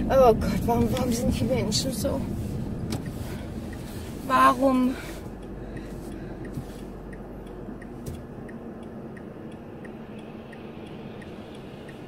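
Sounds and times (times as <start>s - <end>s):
car engine idling: 0.0s - 12.0s
turn signal ticking: 0.0s - 12.0s.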